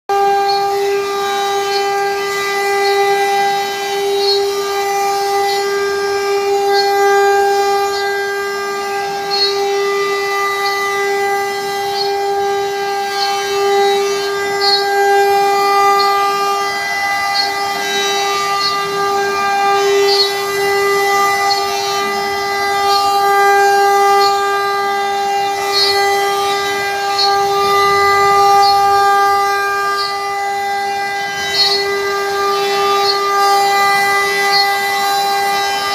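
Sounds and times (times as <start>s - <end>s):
router spindle high-pitched whine: 0.1s - 35.9s.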